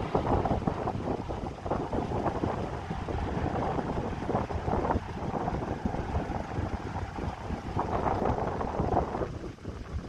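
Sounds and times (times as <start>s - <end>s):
distant jet engine rumble: 0.0s - 10.0s
wind buffeting microphone: 0.0s - 10.0s.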